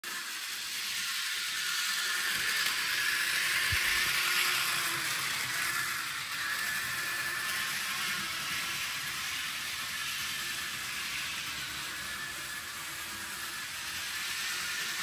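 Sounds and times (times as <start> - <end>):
model train motor whirring: 0.0 - 15.0.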